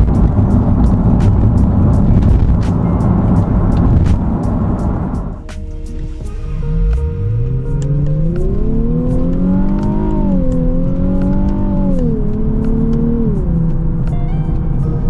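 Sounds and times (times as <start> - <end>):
car engine accelerating: 0.0 - 5.5, 6.6 - 15.0
road noise: 0.0 - 5.5, 6.5 - 15.0.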